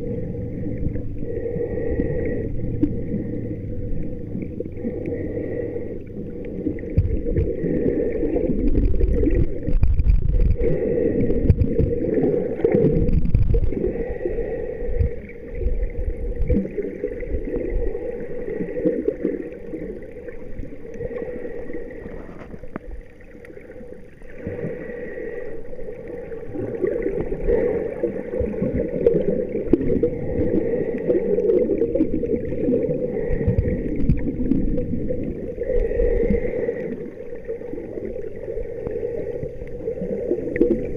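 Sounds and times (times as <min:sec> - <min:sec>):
muffled water sloshing and gurgling: 0:00.0 - 0:40.9.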